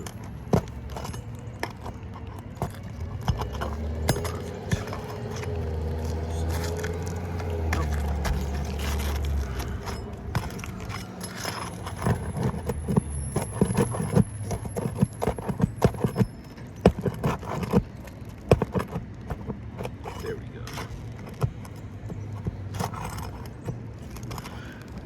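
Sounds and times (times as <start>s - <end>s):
metal tool tapping and scraping nail: 0.0s - 24.6s.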